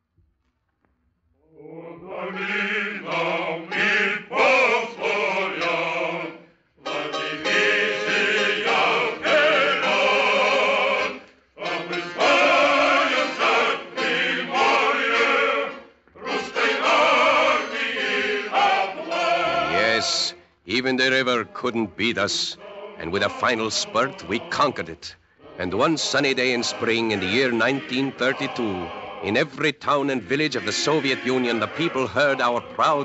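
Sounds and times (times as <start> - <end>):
voices singing in chorus: 1.5 - 33.0.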